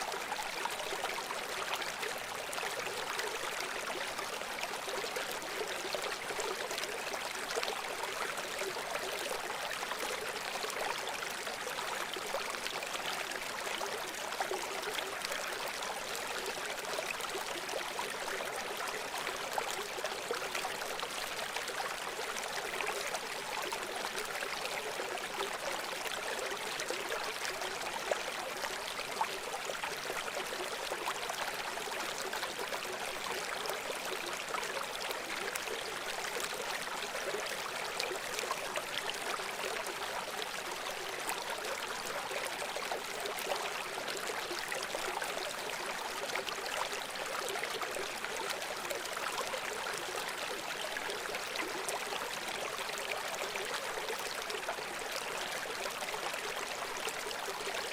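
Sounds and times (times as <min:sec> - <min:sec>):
river babbling water: 0:00.0 - 0:57.9.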